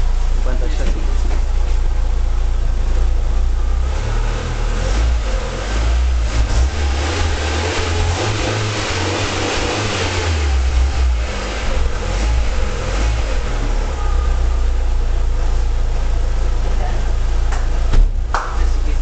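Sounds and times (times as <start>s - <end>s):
car engine revs falling: 0.0s - 18.6s.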